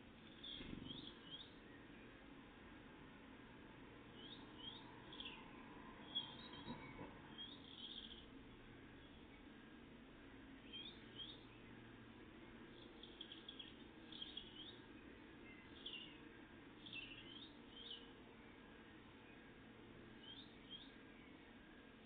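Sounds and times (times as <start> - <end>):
low background rumble: 0.0 - 22.0
songbird chirps: 0.1 - 3.2, 4.0 - 22.0.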